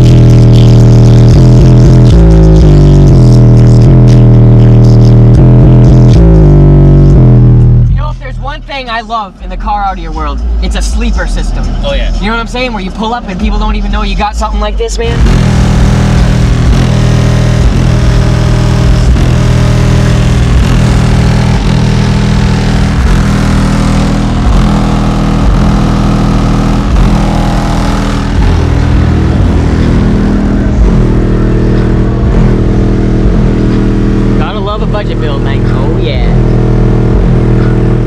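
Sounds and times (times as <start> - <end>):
bass-heavy music through subwoofers: 0.0 - 38.0.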